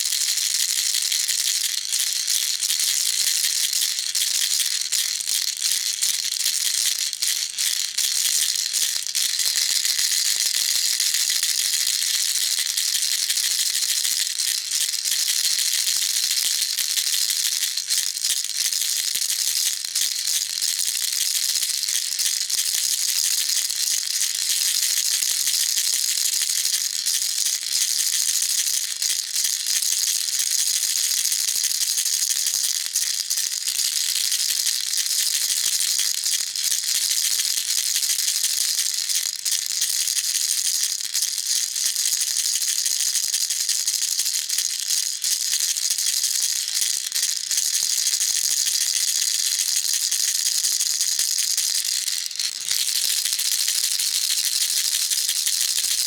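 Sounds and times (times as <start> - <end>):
baby rattle shaken: 0.1 - 56.0.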